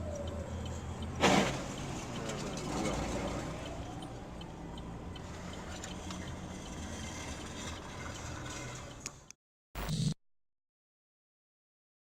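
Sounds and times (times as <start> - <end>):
car engine and road noise: 0.0 - 9.9.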